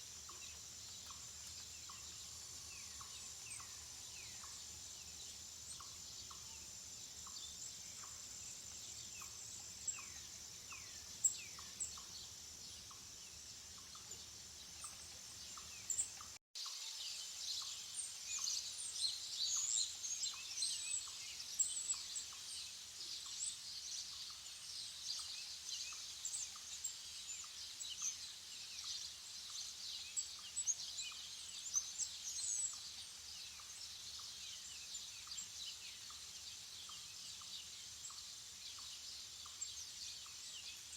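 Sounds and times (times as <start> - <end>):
faint high hiss: 0.0 - 40.9
small birds chirping: 0.0 - 40.9.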